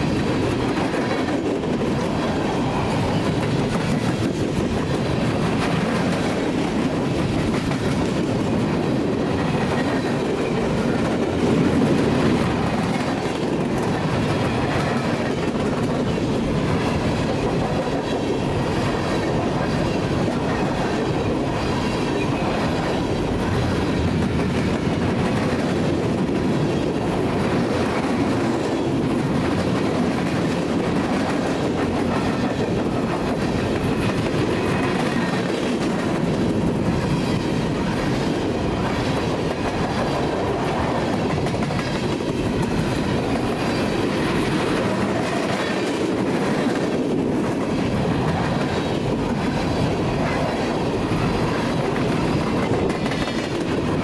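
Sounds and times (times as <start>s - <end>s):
freight train wheels rumbling: 0.0s - 54.0s
wheels clicking over rail joints: 0.0s - 54.0s.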